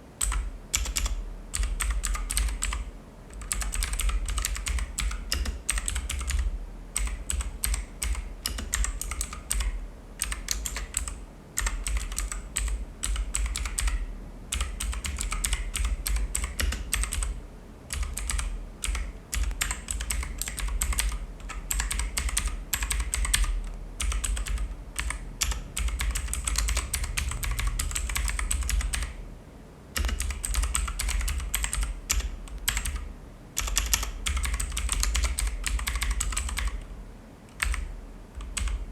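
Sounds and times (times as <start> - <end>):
clicky mechanical keyboard typing: 0.2 - 29.2, 30.0 - 36.9, 37.5 - 38.8.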